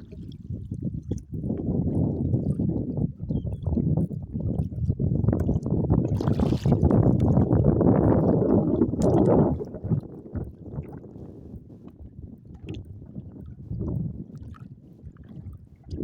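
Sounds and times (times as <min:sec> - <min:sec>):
water sloshing against kayak hull: 0:00.0 - 0:02.7, 0:04.5 - 0:16.0
wind buffeting microphone: 0:00.0 - 0:16.0.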